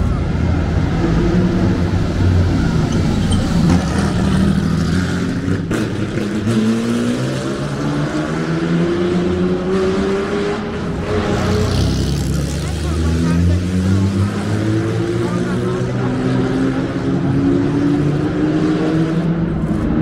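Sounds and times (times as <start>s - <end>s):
vintage car engines running: 0.0s - 7.0s, 10.6s - 20.0s.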